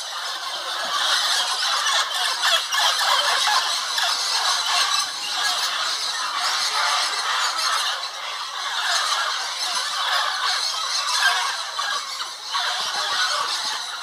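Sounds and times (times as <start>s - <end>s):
flock of parrots squawking: 0.0s - 14.0s.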